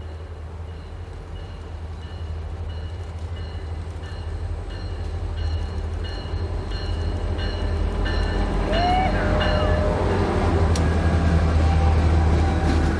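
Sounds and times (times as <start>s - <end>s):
diesel locomotive rumbling: 0.0s - 12.9s
railroad crossing bell ringing: 0.0s - 12.9s.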